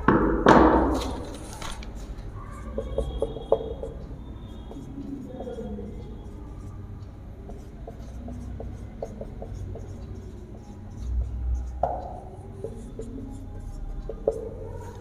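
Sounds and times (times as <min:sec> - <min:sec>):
marker pen writing on whiteboard: 0:00.0 - 0:15.0.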